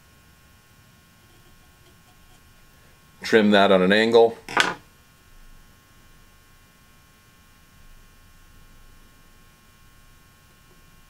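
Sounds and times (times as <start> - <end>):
faint electrical hum with hiss: 0.0 - 11.0.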